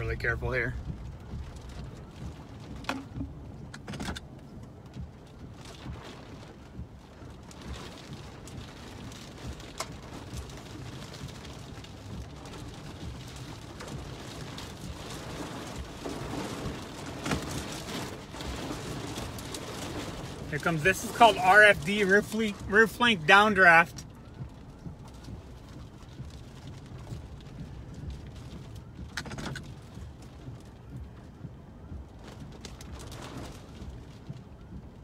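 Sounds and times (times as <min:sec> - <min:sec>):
heavy raindrop taps: 0:00.0 - 0:35.0
rain pattering on windshield: 0:00.0 - 0:35.0
road and wind rumble: 0:00.0 - 0:35.0.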